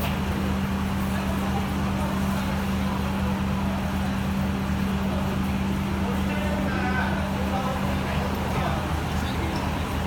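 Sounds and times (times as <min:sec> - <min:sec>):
fire engines idling drone: 0:00.0 - 0:10.0.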